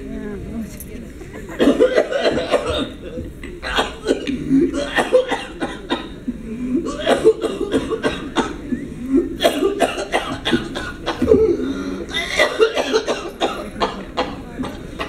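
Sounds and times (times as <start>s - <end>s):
man coughing: 1.6s - 14.4s.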